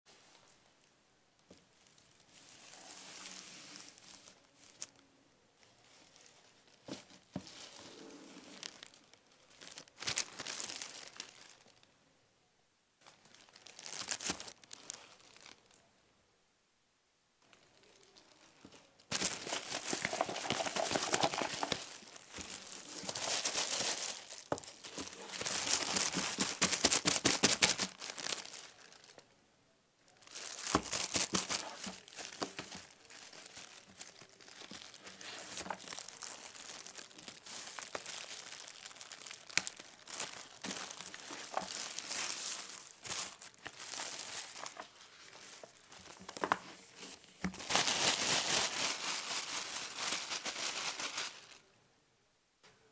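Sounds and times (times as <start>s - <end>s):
plastic bags crinkling: 5.6s - 11.8s, 13.0s - 15.8s, 17.4s - 29.2s, 30.1s - 51.6s.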